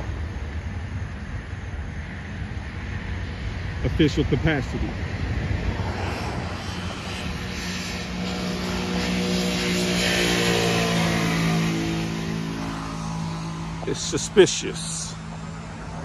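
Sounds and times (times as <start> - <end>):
passing engine hum: 0.0 - 16.0.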